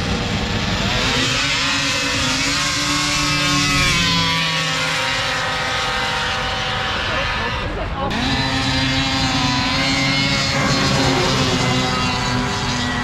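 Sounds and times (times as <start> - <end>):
snowmobile engines revving high: 0.0 - 13.0.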